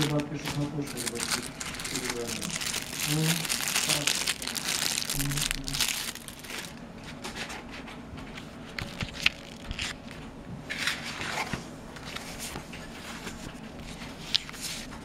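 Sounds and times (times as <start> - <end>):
paper leaflets rustling: 0.0 - 7.2, 8.3 - 15.0.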